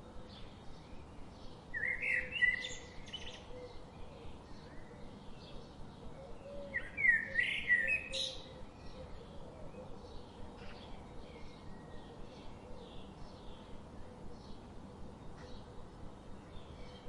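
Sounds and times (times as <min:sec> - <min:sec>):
faint birdsong: 0:00.0 - 0:17.0
soft background hiss: 0:00.0 - 0:17.0
songbird singing: 0:00.0 - 0:17.0.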